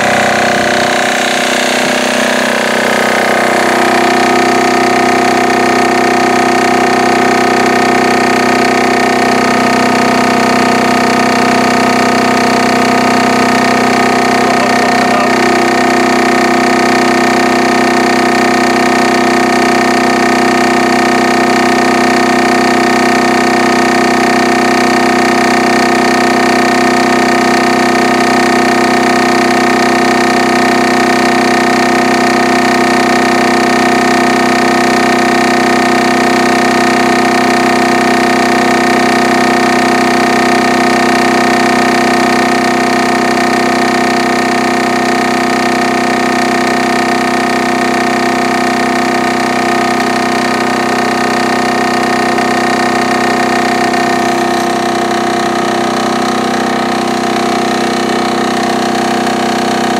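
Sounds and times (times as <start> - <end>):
diesel generator running: 0.0 - 59.9.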